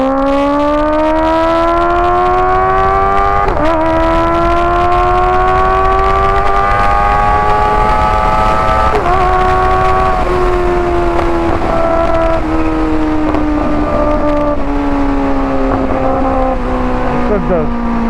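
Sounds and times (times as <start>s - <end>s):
motorcycle engine accelerating: 0.0s - 18.0s
wind on microphone: 0.0s - 18.0s.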